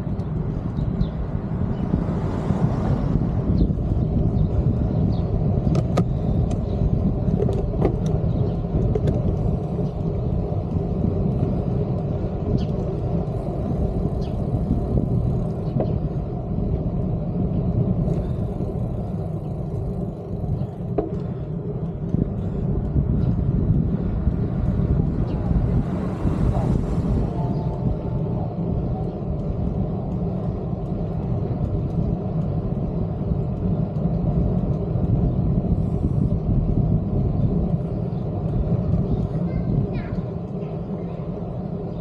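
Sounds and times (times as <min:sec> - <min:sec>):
road noise: 0:00.0 - 0:42.0
wind rumble on microphone: 0:00.0 - 0:42.0.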